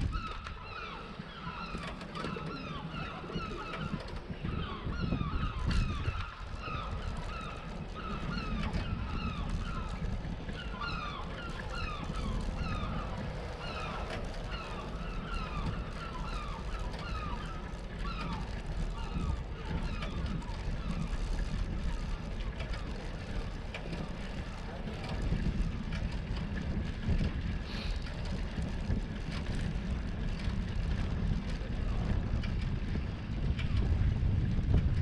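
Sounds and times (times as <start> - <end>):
bicycle squeaking: 0.0 - 34.2
tyres rumbling on brick paving: 0.0 - 35.0.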